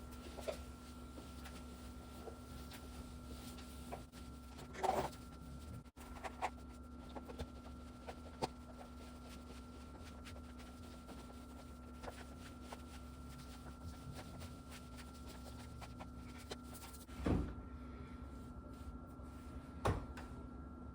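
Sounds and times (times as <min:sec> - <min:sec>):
steady hum with constant tones: 0:00.0 - 0:20.9.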